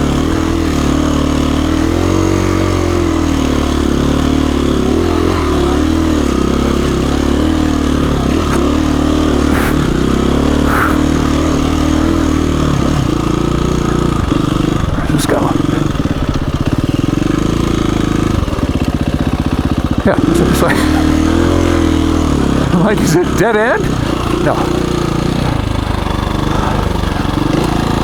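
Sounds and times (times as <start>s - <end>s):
dirt bike engine at low throttle: 0.0s - 28.0s.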